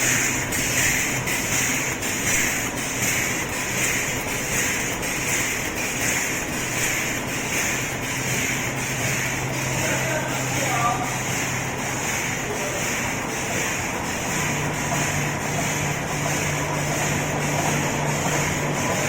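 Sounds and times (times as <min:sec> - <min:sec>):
low machine hum: 0:00.0 - 0:19.0
packing machine hissing and whooshing: 0:00.0 - 0:19.0.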